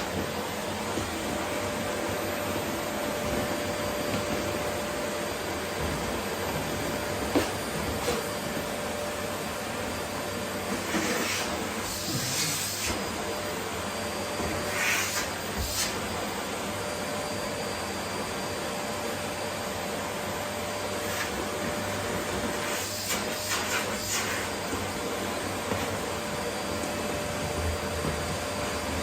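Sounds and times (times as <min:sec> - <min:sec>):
vacuum cleaner humming: 0:00.0 - 0:29.0.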